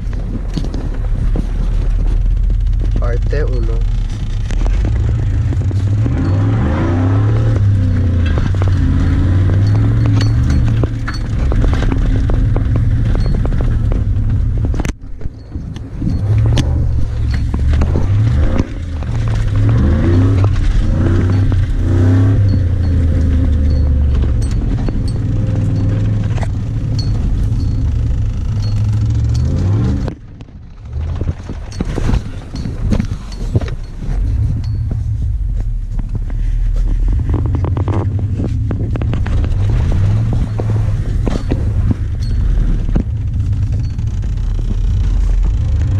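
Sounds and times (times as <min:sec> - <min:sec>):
cab rattles and knocks: 0:00.0 - 0:45.9
truck engine revving: 0:00.0 - 0:45.9.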